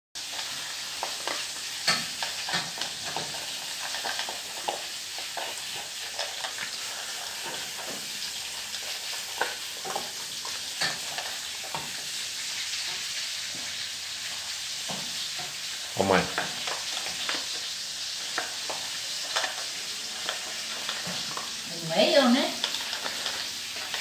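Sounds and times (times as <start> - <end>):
food frying in a pan: 0.2 - 24.0.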